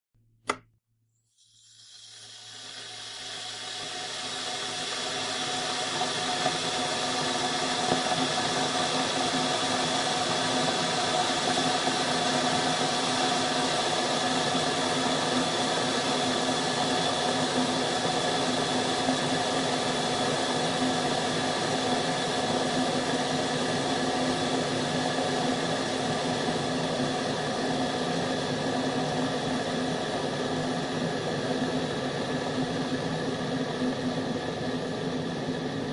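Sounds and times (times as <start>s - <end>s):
kettle boiling: 1.4s - 35.9s.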